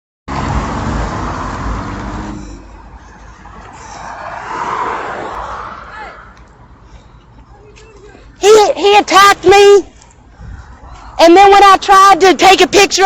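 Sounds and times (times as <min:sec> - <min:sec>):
vehicle passing: 0:00.3 - 0:11.2.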